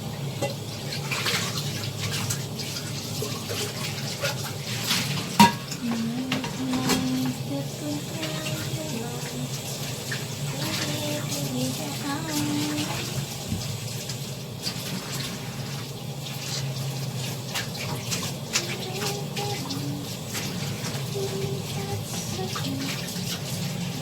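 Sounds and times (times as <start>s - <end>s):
water running from tap: 0.0s - 24.0s.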